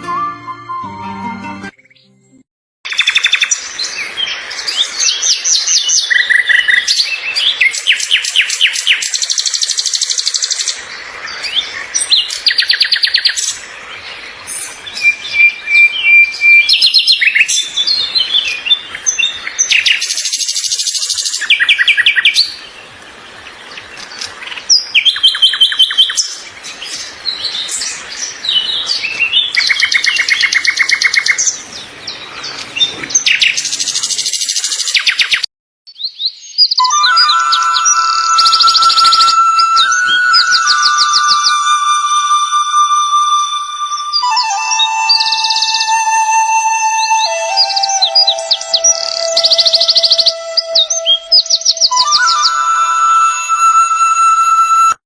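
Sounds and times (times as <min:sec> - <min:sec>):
songbirds singing trills: 0:02.9 - 0:52.7.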